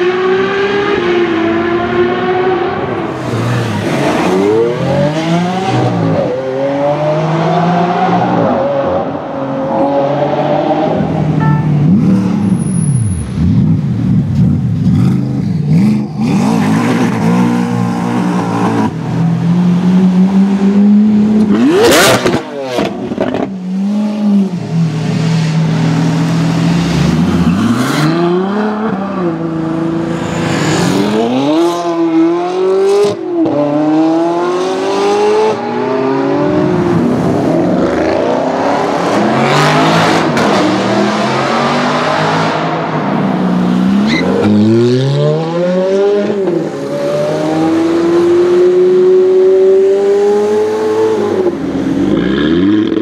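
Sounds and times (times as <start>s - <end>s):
supercar engines revving: 0.0s - 53.0s.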